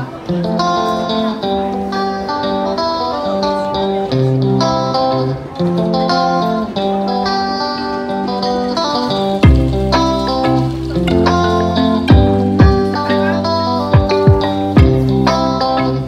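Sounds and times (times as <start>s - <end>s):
plucked guitar tune: 0.0s - 16.0s.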